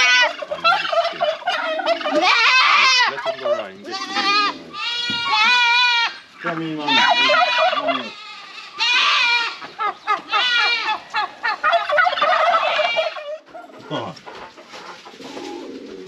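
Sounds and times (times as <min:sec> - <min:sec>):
turkeys gobbling: 0:00.0 - 0:16.0.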